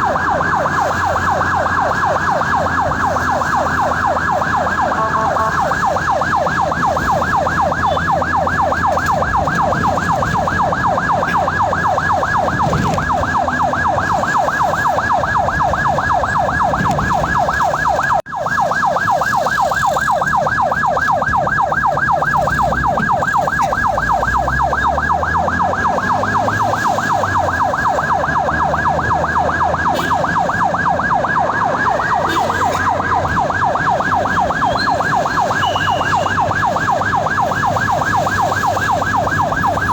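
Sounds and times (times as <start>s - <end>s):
ambulance siren yelping: 0.0s - 39.9s
vehicle rumble on road: 0.0s - 39.9s.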